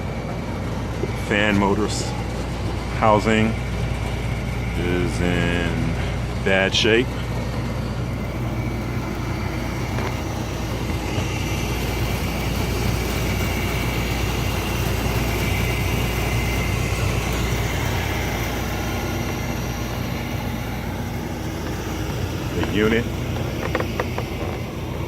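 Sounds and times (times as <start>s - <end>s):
hvac unit fan whirring: 0.0s - 25.0s
low hum: 0.0s - 25.0s.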